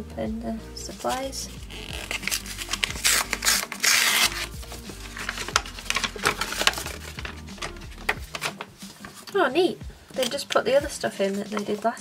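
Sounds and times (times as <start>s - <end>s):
paper envelope crinkling: 1.0s - 9.4s, 10.2s - 12.0s.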